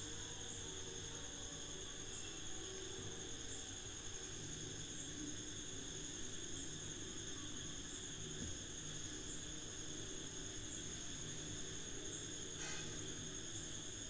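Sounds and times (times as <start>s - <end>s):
insect chirp: 0.0s - 14.0s
insects trilling: 0.0s - 14.0s.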